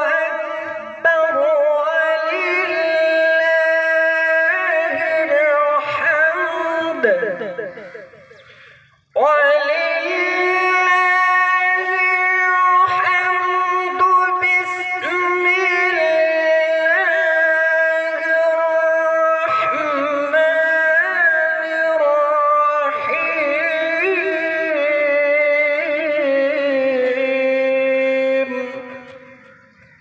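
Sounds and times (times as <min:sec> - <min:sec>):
man chanting recitation: 0:00.0 - 0:30.0.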